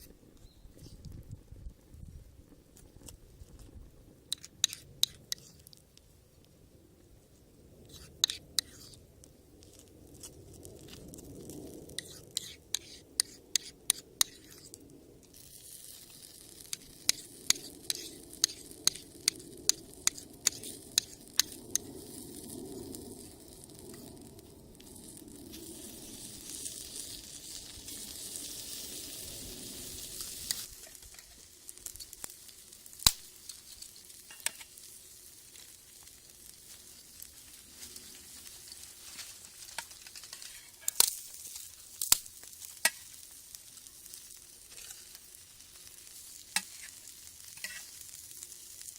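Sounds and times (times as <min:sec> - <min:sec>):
food sizzling in a skillet: 0:04.3 - 0:05.7, 0:07.9 - 0:09.0, 0:09.6 - 0:48.9.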